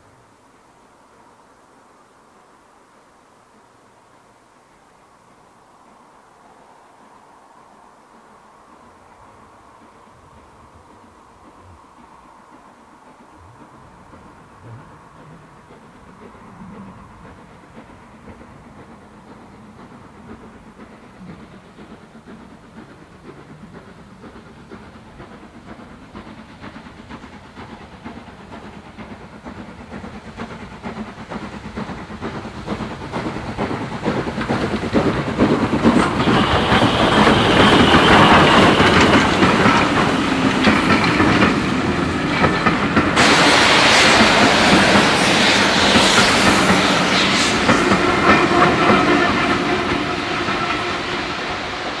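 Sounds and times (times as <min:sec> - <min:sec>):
steam hiss: 0:00.0 - 0:52.0
steam train passing: 0:00.0 - 0:52.0
wheels clacking over rail joints: 0:08.2 - 0:52.0.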